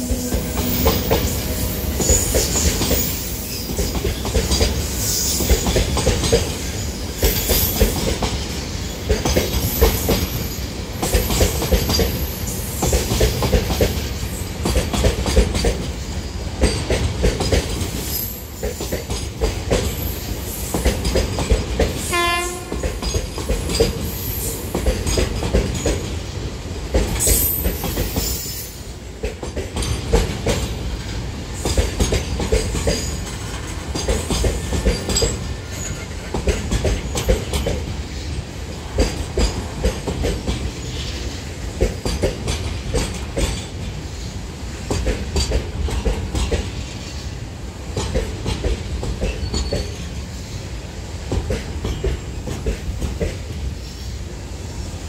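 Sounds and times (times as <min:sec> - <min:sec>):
freight train wheels rumbling: 0:00.0 - 0:55.0
clickety-clack over rail joints: 0:00.1 - 0:54.2.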